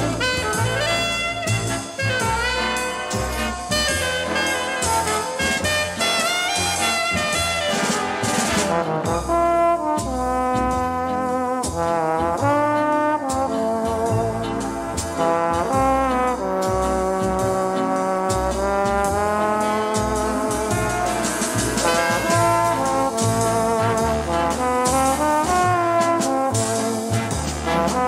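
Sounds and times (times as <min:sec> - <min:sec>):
big band brass music: 0:00.0 - 0:28.0.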